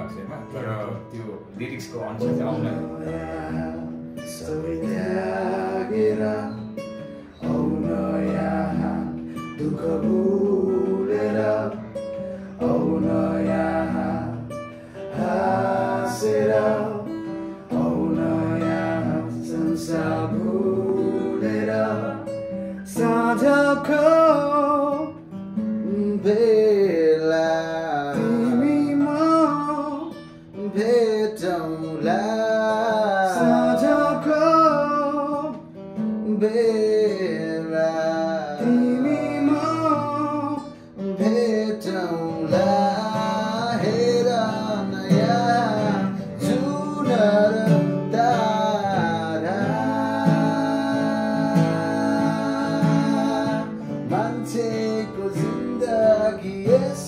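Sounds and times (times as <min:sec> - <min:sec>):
man singing: 0:00.0 - 0:25.2, 0:25.8 - 0:57.0
strummed acoustic guitar: 0:00.0 - 0:57.0.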